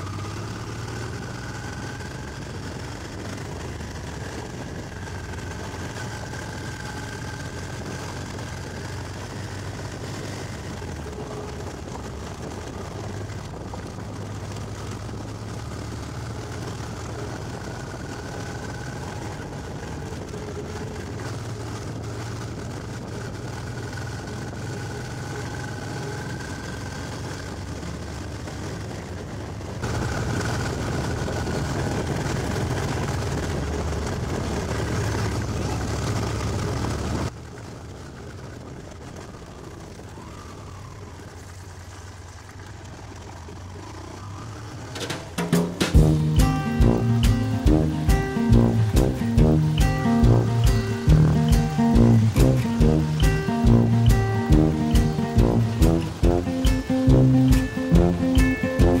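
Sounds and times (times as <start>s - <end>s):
motorcycle engine running: 0.0s - 40.1s, 41.5s - 59.0s
wind and riding noise: 0.0s - 59.0s.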